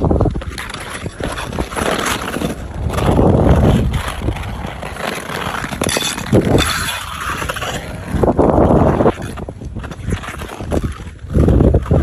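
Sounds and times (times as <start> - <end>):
skate blades scraping ice: 0.0 - 12.0.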